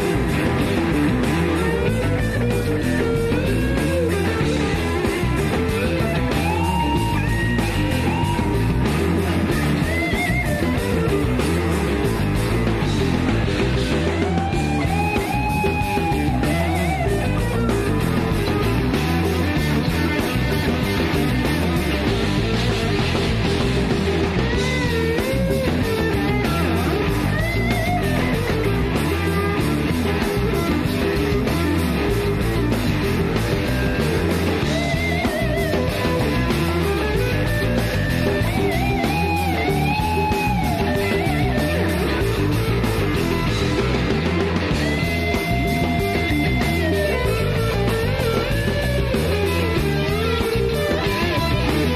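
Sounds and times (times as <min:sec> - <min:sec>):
electric guitar solo: 0:00.0 - 0:51.9
rock band playing: 0:00.0 - 0:51.9.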